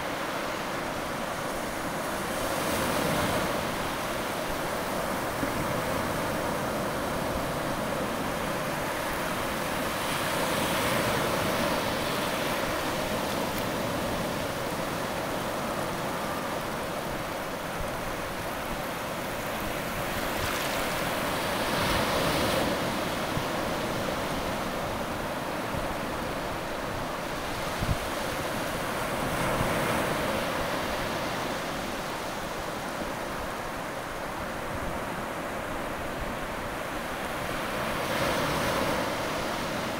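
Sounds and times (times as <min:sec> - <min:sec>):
waves washing over sand: 0:00.0 - 0:39.9.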